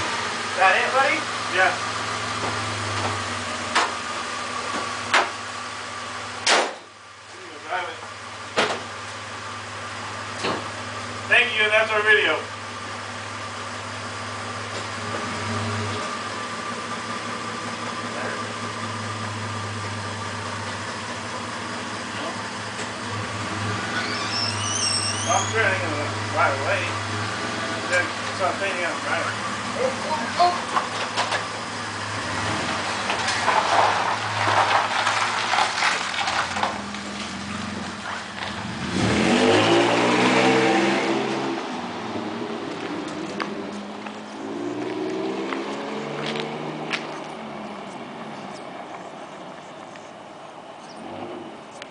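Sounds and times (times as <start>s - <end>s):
pickup engine idling: 0.0s - 39.0s, 46.2s - 51.9s.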